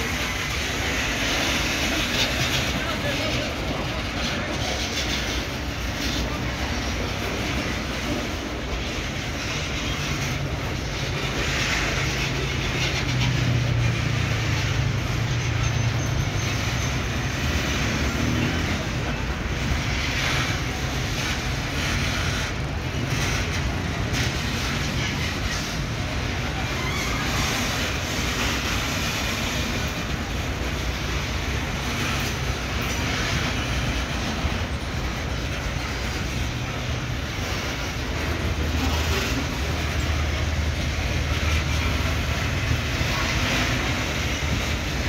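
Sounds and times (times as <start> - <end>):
steel wheels rumbling on rail: 0.0 - 45.0.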